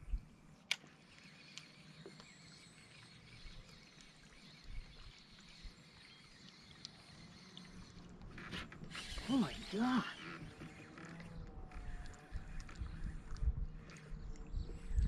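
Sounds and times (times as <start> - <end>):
faint outdoor ambience: 0.0 - 15.0
small quiet clicks: 0.6 - 9.3, 10.5 - 15.0.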